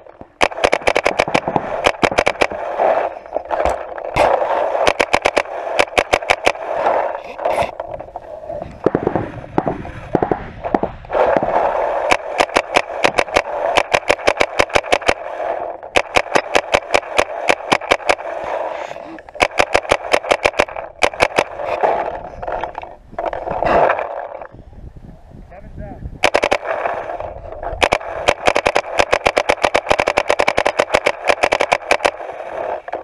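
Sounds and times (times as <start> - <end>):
paintball marker firing: 0.0 - 7.8, 8.6 - 24.5, 26.2 - 33.0.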